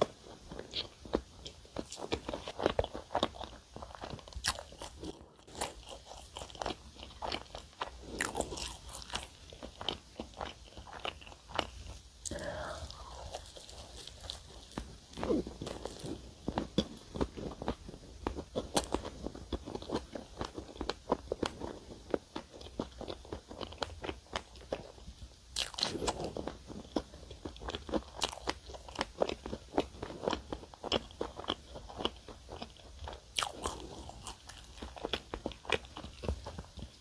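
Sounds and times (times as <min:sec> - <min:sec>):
close-miked chewing: 0:00.0 - 0:37.0.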